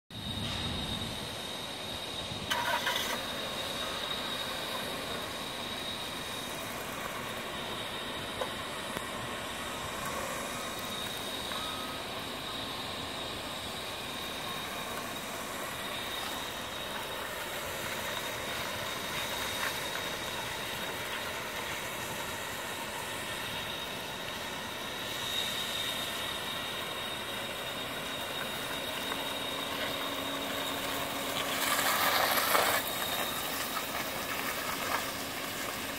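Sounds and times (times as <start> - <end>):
car engine at low speed: 0.1 - 35.9
steady high-pitched tone: 0.1 - 35.9.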